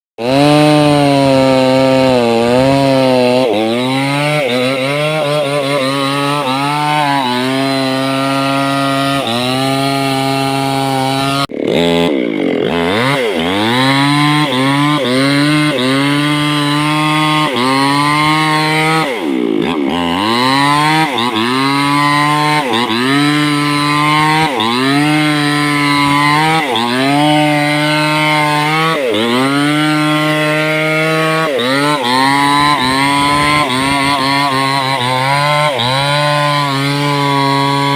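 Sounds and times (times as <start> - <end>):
chainsaw cutting wood: 0.2 - 37.9.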